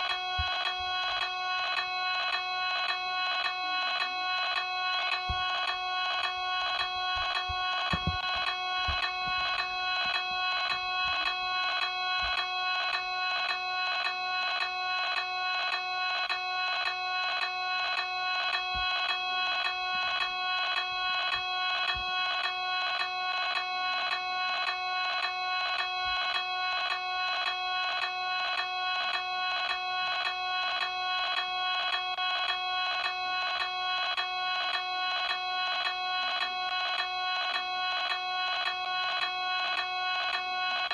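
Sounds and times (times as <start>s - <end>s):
pulsing electronic alarm: 0.0s - 40.9s.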